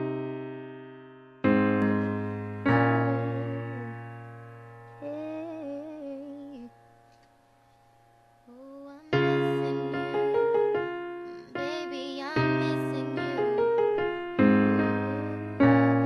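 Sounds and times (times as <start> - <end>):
electric piano chords: 0.0 - 16.0
wavering melodic line with vibrato: 1.8 - 16.0.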